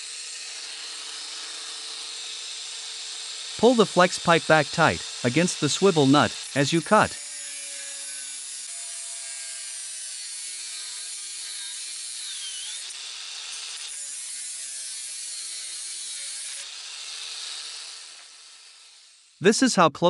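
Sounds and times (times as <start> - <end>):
angle grinder cutting metal: 0.0 - 19.4.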